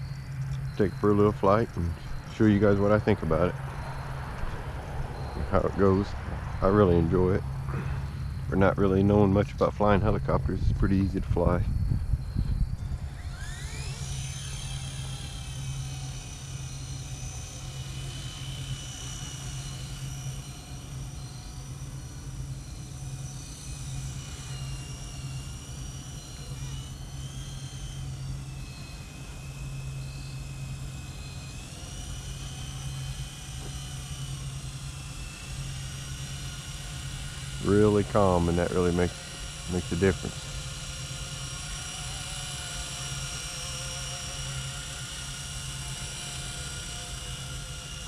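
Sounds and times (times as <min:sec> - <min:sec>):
rc helicopter motor whine: 0:00.0 - 0:48.0.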